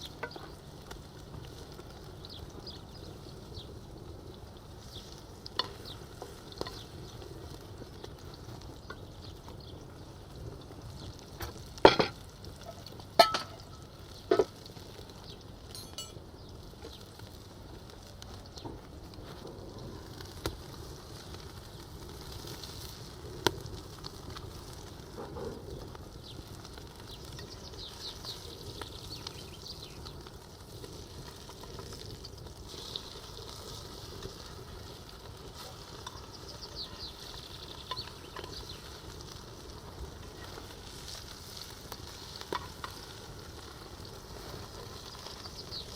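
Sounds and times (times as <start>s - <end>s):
food sizzling in frying pan: 0.0s - 45.9s.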